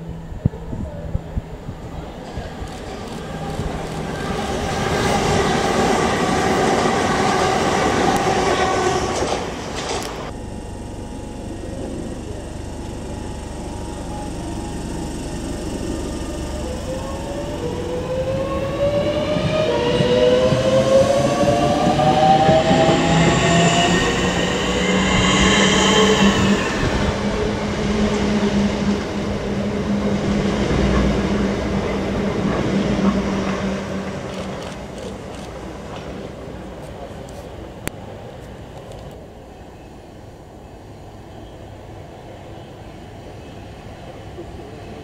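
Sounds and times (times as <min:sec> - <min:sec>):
electric train motors whining: 0:00.0 - 0:39.3
wheels rumbling on rail: 0:00.0 - 0:45.0.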